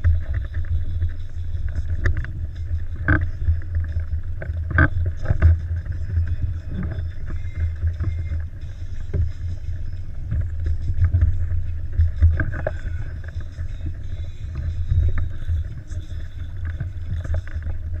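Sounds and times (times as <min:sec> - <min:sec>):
uneven low rumble: 0:00.0 - 0:18.0
water slapping plastic hull: 0:00.0 - 0:18.0.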